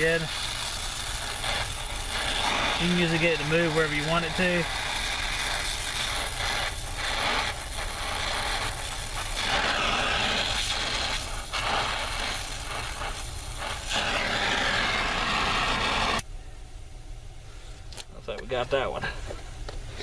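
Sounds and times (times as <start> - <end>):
brazing torch flame hissing: 0.0 - 16.2
steady low hum: 0.0 - 20.0.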